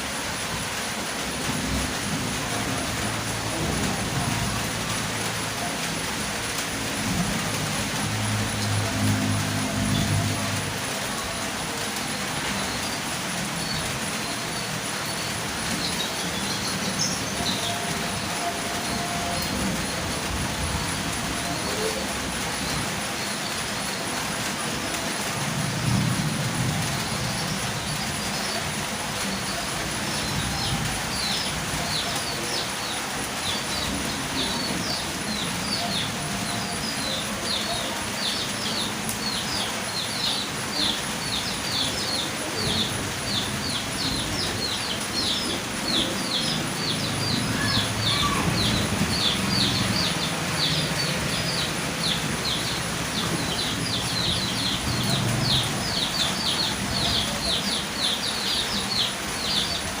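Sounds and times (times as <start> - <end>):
rain hiss: 0.0 - 60.0.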